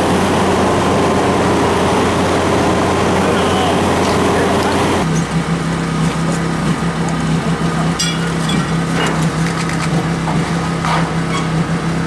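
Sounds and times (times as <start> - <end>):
low machine drone: 0.0 - 12.0.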